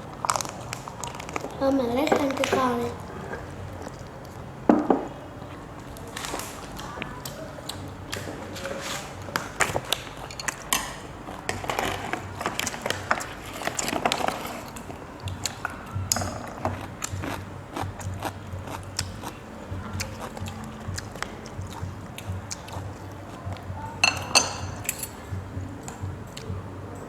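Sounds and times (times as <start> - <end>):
chewing and crunching food: 0.0 - 27.0.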